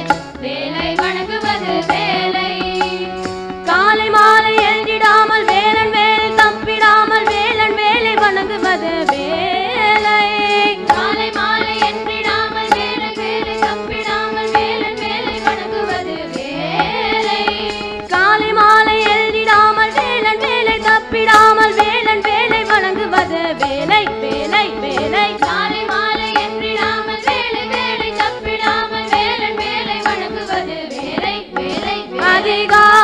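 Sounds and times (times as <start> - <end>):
chorus of girls singing: 0.0 - 33.0.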